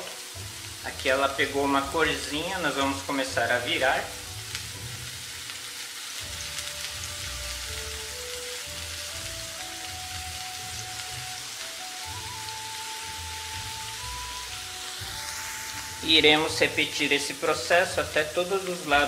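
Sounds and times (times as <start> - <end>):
slow background music: 0.0 - 19.0
tofu sizzling in a frying pan: 0.0 - 19.0.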